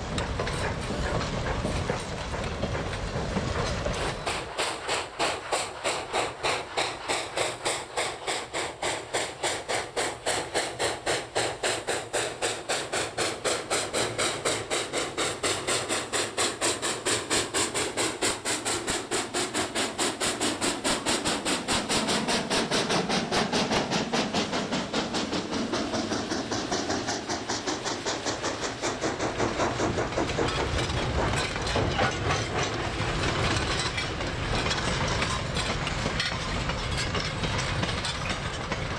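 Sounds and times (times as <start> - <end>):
steam locomotive chuffing: 0.0 - 38.9.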